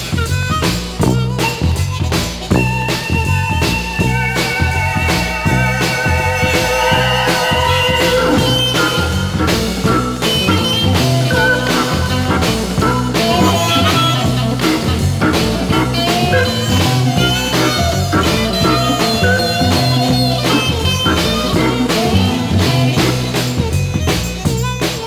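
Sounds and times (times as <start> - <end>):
instrumental blues record: 0.0 - 25.0
lead instrument bending phrases: 1.0 - 23.6.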